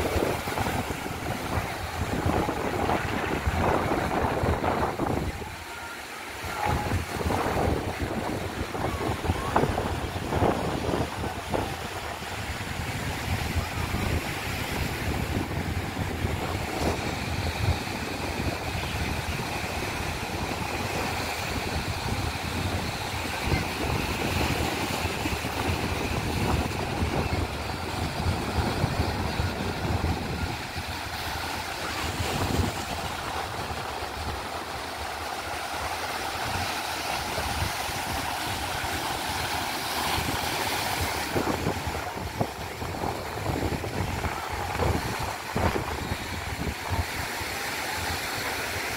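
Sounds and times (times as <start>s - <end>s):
surf washing over rocks: 0.0s - 48.9s
wind buffeting microphone: 0.0s - 48.9s.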